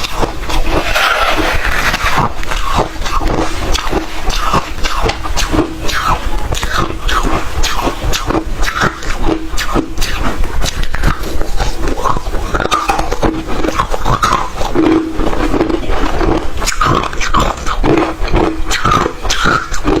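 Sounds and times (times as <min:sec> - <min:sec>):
ice crunching while chewed: 0:00.0 - 0:20.0
wet mouth sounds: 0:00.0 - 0:20.0.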